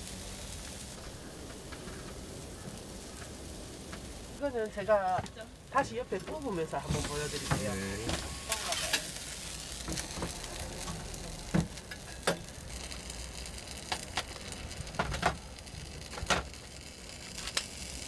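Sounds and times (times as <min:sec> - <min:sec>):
batter sizzling: 0:00.0 - 0:18.0.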